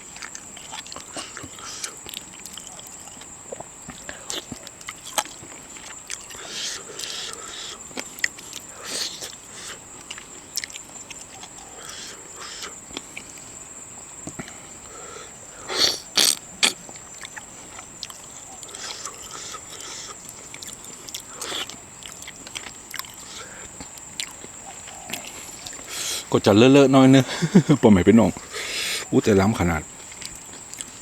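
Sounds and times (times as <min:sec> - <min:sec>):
chewing with clicks and cracks: 0:00.0 - 0:13.6, 0:14.2 - 0:15.1, 0:15.8 - 0:26.3, 0:27.6 - 0:31.0
faint high whine: 0:00.9 - 0:31.0.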